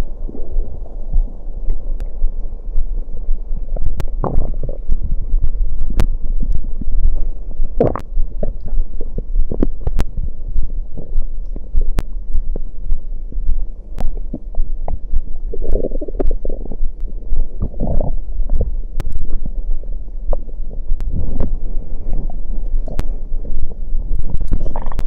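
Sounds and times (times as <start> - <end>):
low steady hum: 0.0 - 25.0
stomach gurgling: 0.0 - 25.0.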